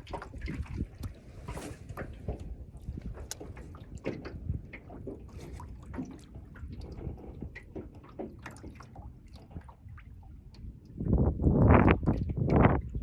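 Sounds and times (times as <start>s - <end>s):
waves lapping against boat hull: 0.0s - 13.0s.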